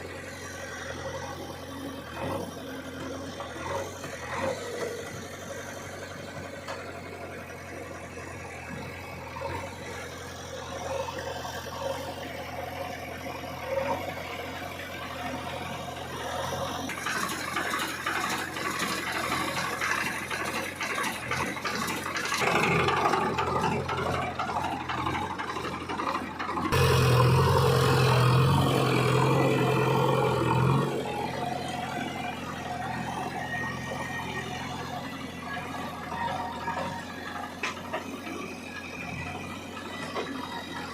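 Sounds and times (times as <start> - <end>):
diesel engine of backhoe loader: 0.0 - 40.9.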